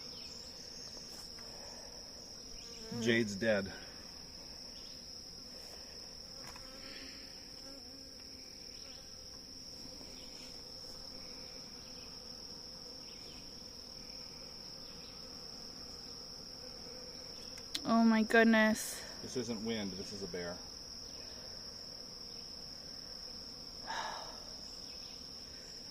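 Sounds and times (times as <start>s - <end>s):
crickets trilling: 0.0s - 25.9s
honeybees buzzing: 0.0s - 25.9s.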